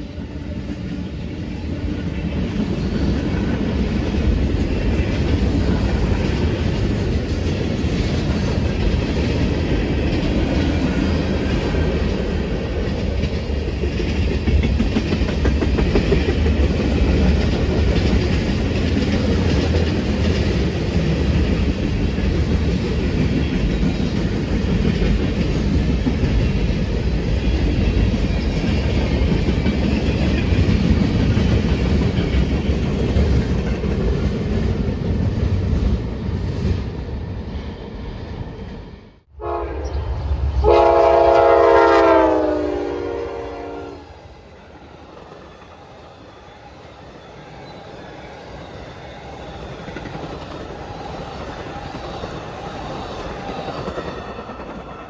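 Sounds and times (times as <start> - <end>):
train wheels clattering on rails: 0.0 - 37.0, 44.6 - 55.0.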